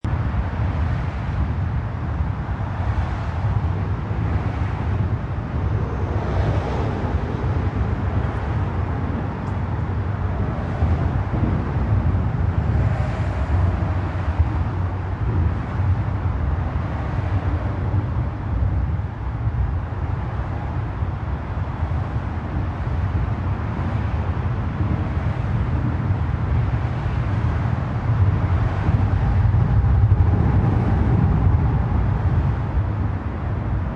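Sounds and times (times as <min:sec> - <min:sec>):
low rumble of road traffic: 0:00.0 - 0:33.9
vehicles passing: 0:00.1 - 0:33.9.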